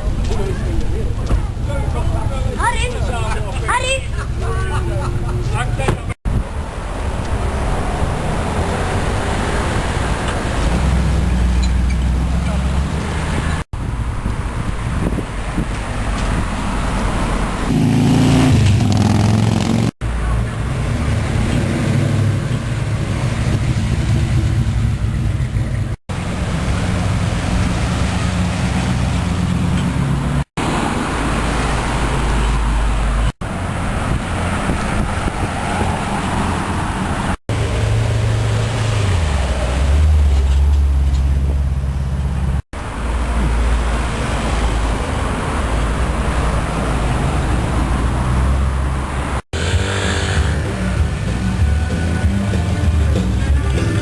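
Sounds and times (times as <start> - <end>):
car engines running: 0.0 - 54.0
road noise: 0.0 - 54.0.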